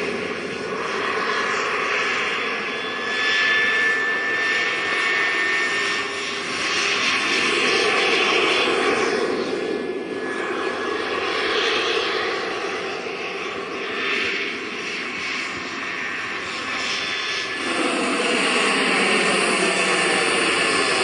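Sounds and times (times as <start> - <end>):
small gas turbine jet rush: 0.0 - 21.0.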